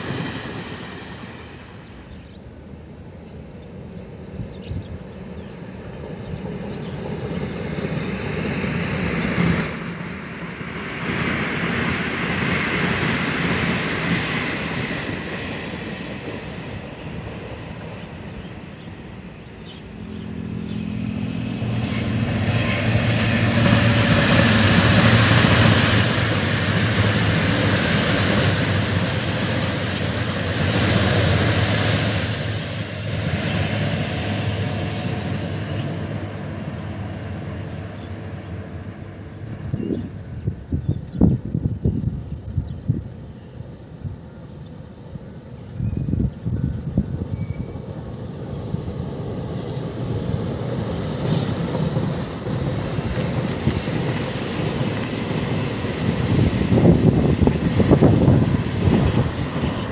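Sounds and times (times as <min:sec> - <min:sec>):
diesel train engine hum: 0:00.0 - 0:59.9
train wheels rushing on rail: 0:00.0 - 0:59.9.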